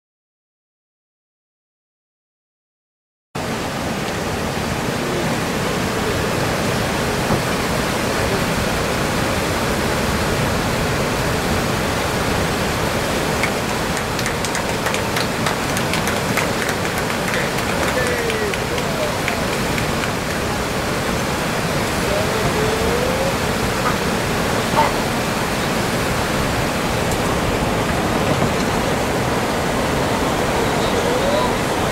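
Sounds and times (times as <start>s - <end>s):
river water rushing: 3.4s - 31.9s.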